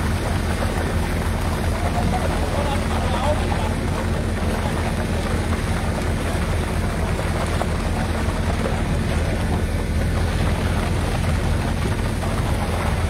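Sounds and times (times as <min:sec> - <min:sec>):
construction machinery engines droning: 0:00.0 - 0:13.0.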